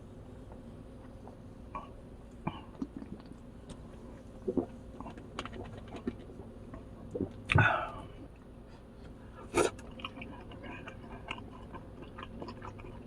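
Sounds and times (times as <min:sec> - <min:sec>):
person chewing food: 0:00.5 - 0:07.6, 0:09.0 - 0:13.0.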